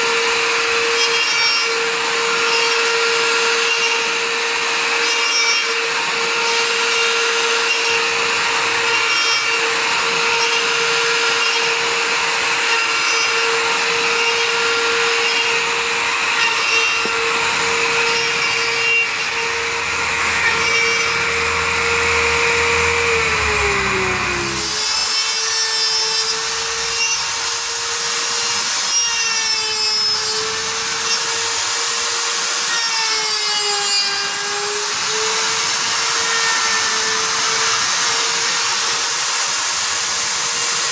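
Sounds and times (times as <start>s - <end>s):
router motor whining: 0.0s - 40.9s
wood being cut: 0.0s - 40.9s.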